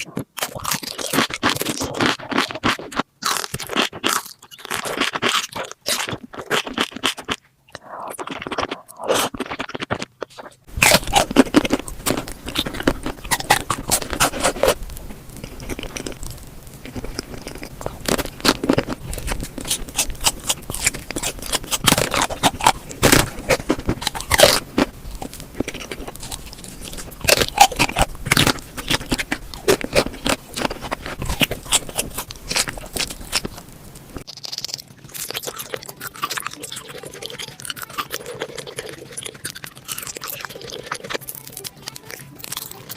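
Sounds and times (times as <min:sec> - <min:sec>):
crunchy bites and chewing: 0:00.0 - 0:42.9
eating scraping: 0:00.0 - 0:42.9.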